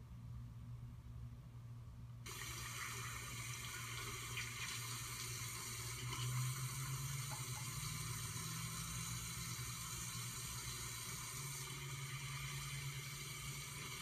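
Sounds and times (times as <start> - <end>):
water running from tap into sink: 2.3 - 14.0.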